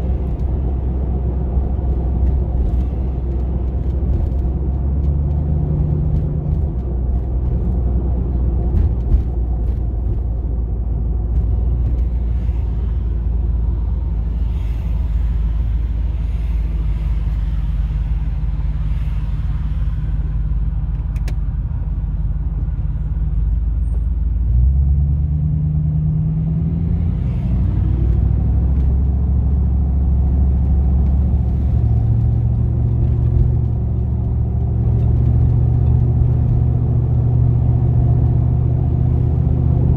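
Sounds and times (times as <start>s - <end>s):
van engine rumbling: 0.0s - 39.9s.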